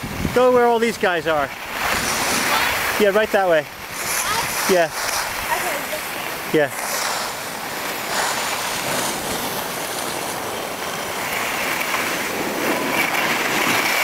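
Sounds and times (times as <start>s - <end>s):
wind on microphone: 0.0s - 14.0s
skis sliding over snow: 0.1s - 14.0s.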